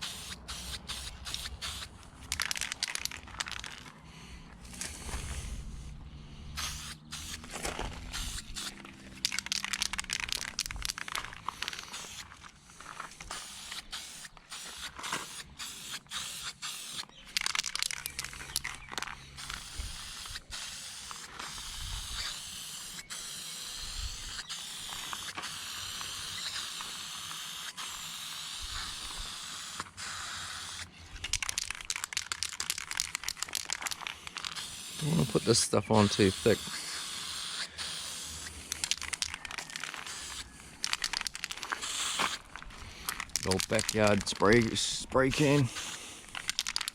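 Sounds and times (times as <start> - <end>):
spray can hissing: 0.0 - 3.8, 6.5 - 12.3, 12.9 - 18.6, 19.4 - 46.9
spray can rattling clicks: 0.0 - 3.9, 6.6 - 12.3, 12.9 - 46.9.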